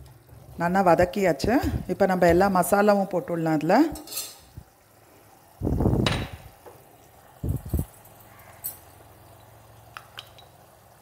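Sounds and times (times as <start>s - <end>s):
thick puree boiling with plops: 0.0s - 11.0s.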